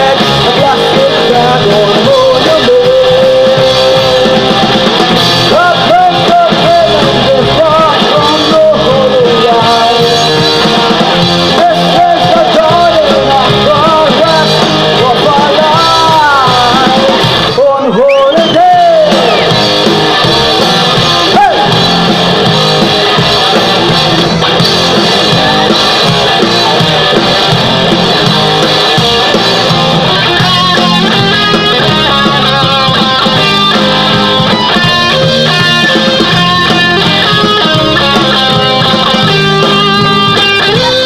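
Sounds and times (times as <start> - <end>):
drums: 0.0 - 41.0
electric guitars: 0.0 - 41.0.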